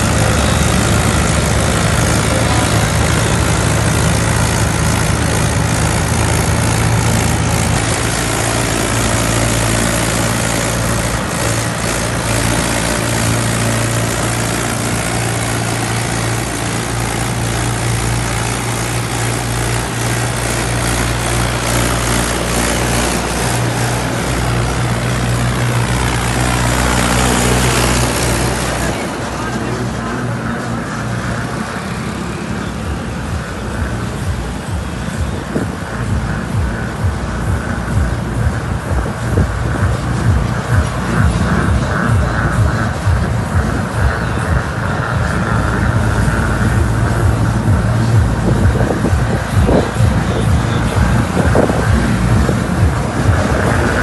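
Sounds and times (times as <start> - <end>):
tractor diesel engines running: 0.0 - 54.0.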